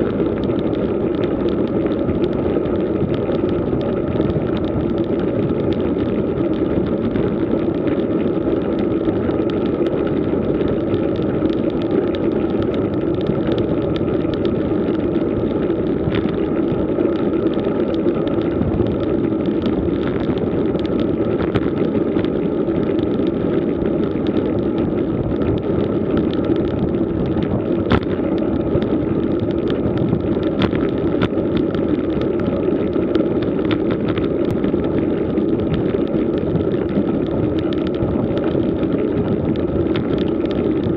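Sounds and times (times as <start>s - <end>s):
bike tyres on rough asphalt: 0.0s - 40.9s
wind noise: 0.0s - 40.9s.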